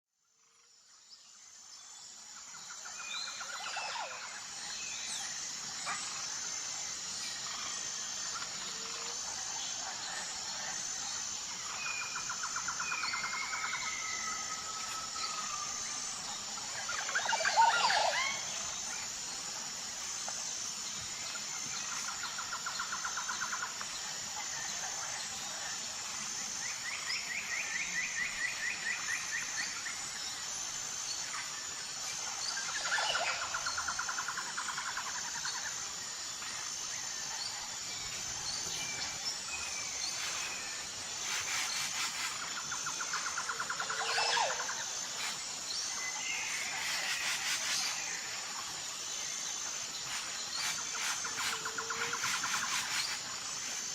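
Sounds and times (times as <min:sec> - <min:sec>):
high-pitched insect drone: 0:00.2 - 0:53.9
birds calling and trilling: 0:01.7 - 0:48.8, 0:49.4 - 0:53.9.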